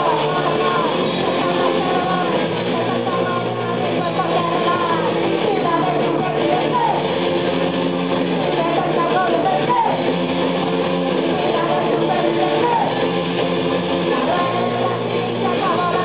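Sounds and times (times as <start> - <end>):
person singing: 0.0 - 7.6, 8.2 - 16.0
drums: 0.0 - 16.0
electric guitar: 0.0 - 16.0
live rock band playing: 0.0 - 16.0.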